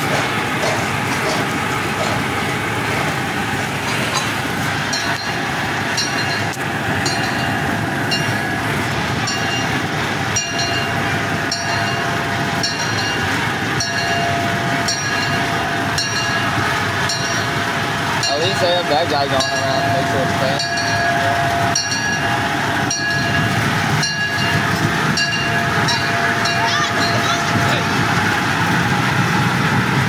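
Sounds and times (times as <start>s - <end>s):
small train rumbling on track: 0.0s - 30.0s
faint whine: 4.6s - 29.3s.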